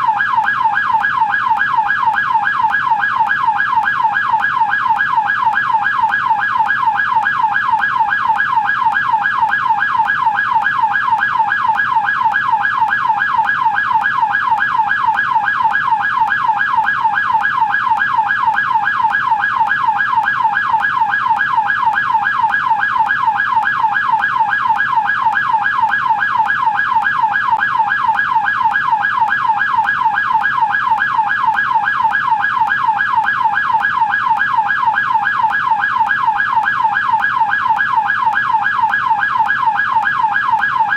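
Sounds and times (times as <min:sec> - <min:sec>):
police siren yelp: 0:00.0 - 0:40.9.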